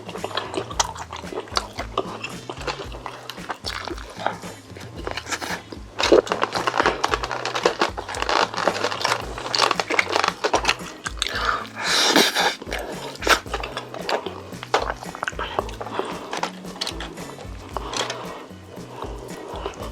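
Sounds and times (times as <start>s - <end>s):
close chewing and crunching: 0.0s - 19.9s
soft background music: 0.0s - 19.9s.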